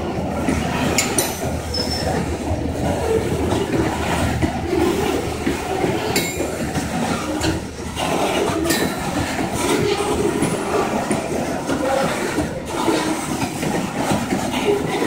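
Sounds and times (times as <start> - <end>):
freight train wheels rumbling on rails: 0.0 - 15.0
wheels clicking over rail joints: 0.0 - 15.0.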